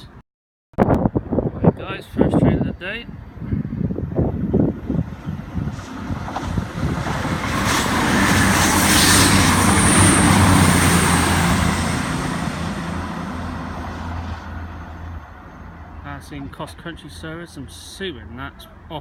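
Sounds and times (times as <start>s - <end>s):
diesel train passing: 3.2s - 19.0s.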